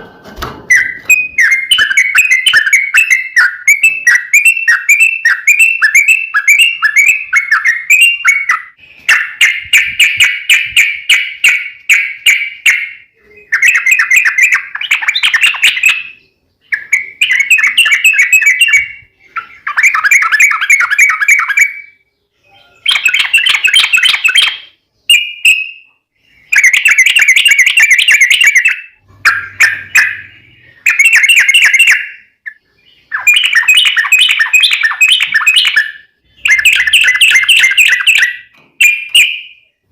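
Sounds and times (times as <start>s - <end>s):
bird chattering song: 0.7s - 39.9s.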